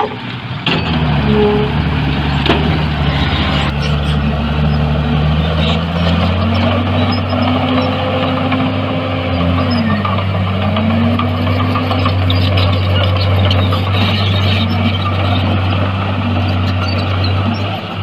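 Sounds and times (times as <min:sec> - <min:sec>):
engine tone rising and dipping: 0:00.0 - 0:17.2
heavy diesel engines running: 0:00.0 - 0:18.0.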